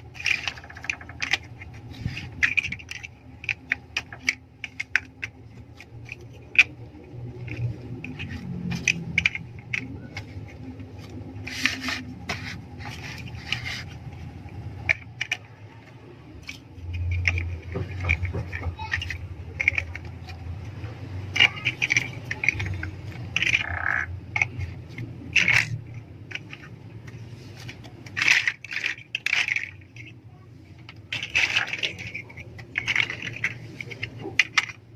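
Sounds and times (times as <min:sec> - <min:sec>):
plastic bricks snapping together: 0:00.0 - 0:30.2, 0:30.8 - 0:34.9
plastic bricks scraping and rattling: 0:00.0 - 0:34.9.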